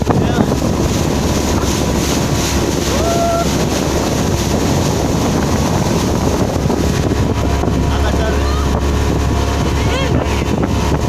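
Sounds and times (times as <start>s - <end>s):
boat motor humming: 0.0s - 11.0s
water rushing past boat: 0.0s - 11.0s
wind buffeting microphone: 0.0s - 11.0s.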